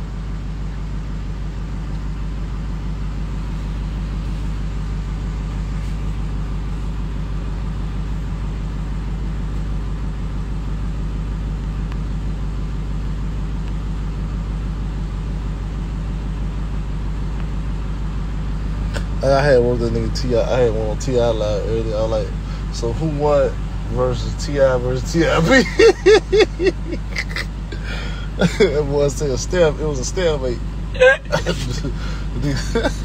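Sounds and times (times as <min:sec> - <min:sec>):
vehicle cabin engine and road rumble: 0:00.0 - 0:33.0.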